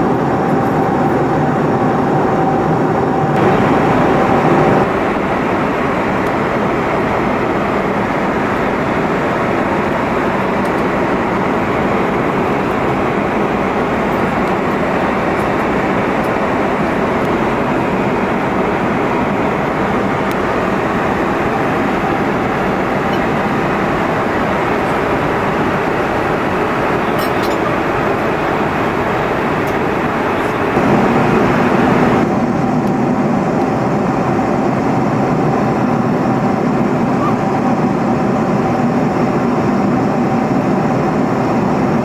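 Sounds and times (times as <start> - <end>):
airliner cabin noise: 0.0 - 42.0
low dull hum with steady tone: 0.0 - 42.0.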